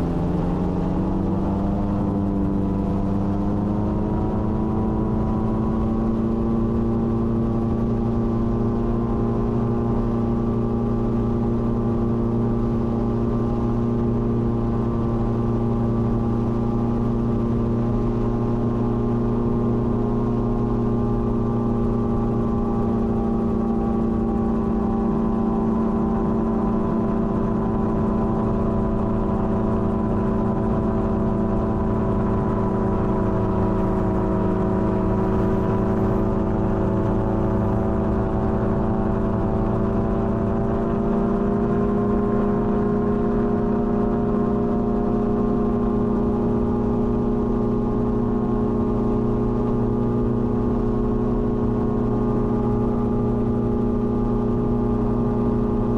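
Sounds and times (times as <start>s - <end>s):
gyroplane engine and propeller droning: 0.0s - 55.9s.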